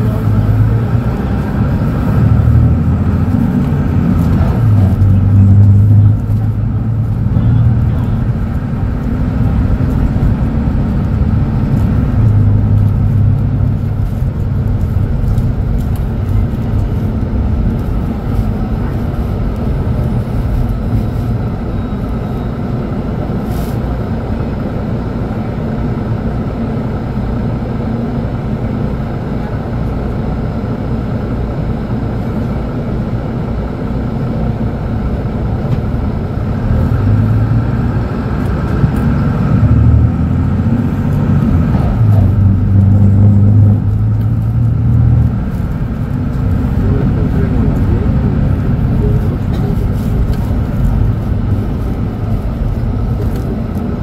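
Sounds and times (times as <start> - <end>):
deeper hum: 0.0 - 54.0
diesel bus engine rumble: 0.0 - 54.0.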